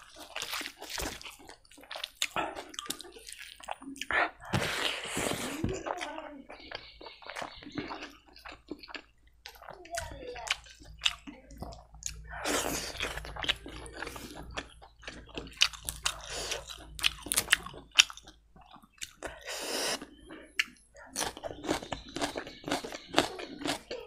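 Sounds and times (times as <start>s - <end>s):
chewing with wet mouth smacks: 0.0s - 4.5s, 5.7s - 24.0s.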